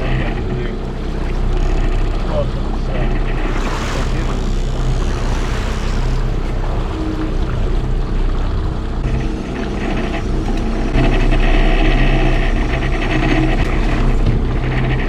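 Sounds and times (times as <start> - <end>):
motorboat engine running: 0.0 - 15.0
water noise: 0.0 - 15.0.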